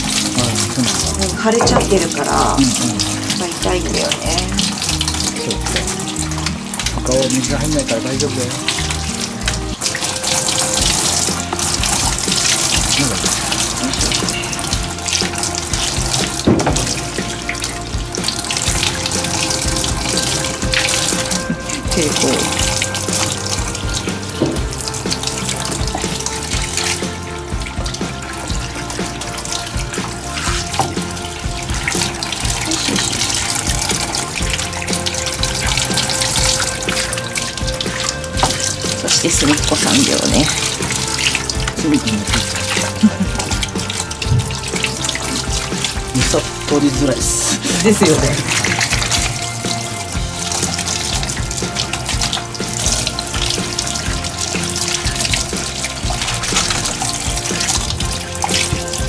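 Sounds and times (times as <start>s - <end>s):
background music: 0.0s - 59.0s
shower hose water spraying: 0.0s - 59.0s.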